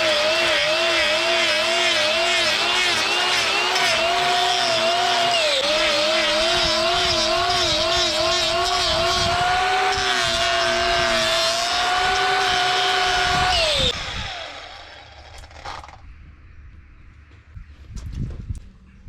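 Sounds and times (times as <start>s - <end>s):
angle grinder cutting hoof: 0.0s - 16.0s.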